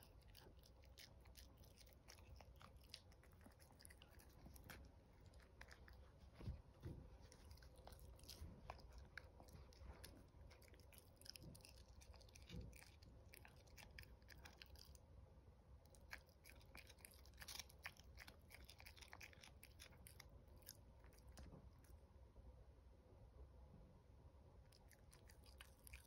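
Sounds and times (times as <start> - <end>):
puppy licking: 0.0 - 15.0, 15.9 - 22.0, 24.7 - 26.0
puppy chewing on a stick: 0.0 - 15.1, 15.8 - 22.0, 24.7 - 26.0.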